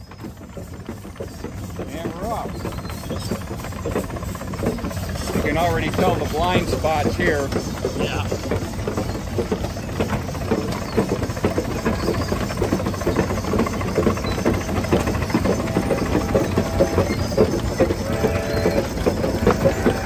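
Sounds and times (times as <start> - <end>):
steam engine chuffing: 0.0 - 20.0
steam hissing: 0.0 - 20.0.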